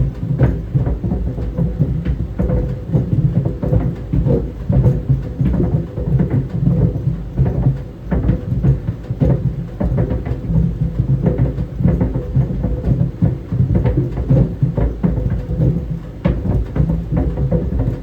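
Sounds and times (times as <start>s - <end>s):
clothes dryer rumble and hum: 0.0s - 18.0s.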